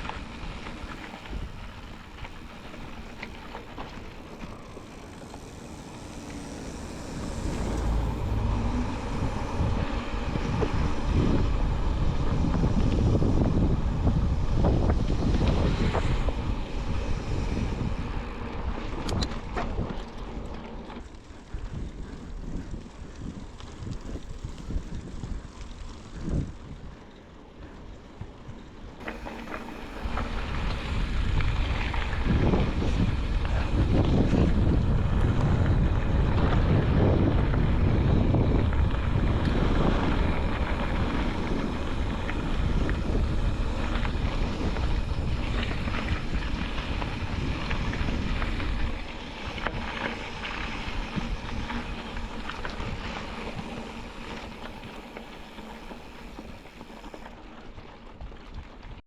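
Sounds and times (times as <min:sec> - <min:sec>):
wind buffeting microphone: 0:00.0 - 0:20.6, 0:21.3 - 0:27.0, 0:28.5 - 0:57.3
road rumble: 0:00.0 - 0:26.8, 0:29.0 - 0:57.4.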